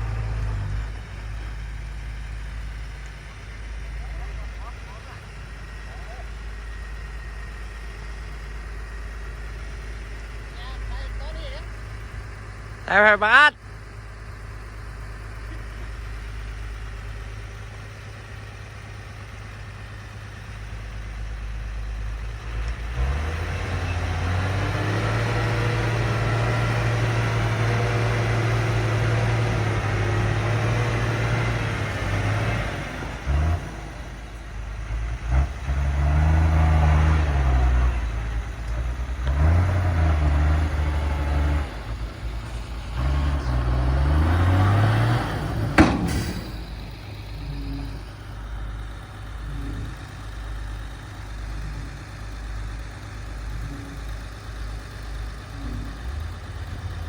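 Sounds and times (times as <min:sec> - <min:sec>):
heavy machine engine revving: 0:00.0 - 0:57.0.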